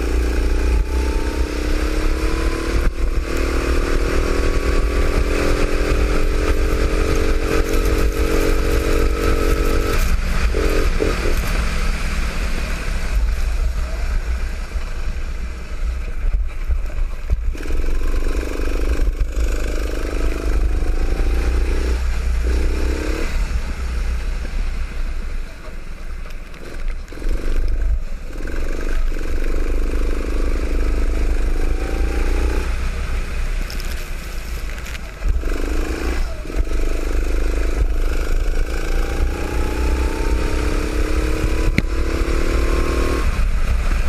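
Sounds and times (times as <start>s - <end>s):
go-kart engine accelerating: 0.0s - 44.0s
heavy low rumble: 0.0s - 44.0s.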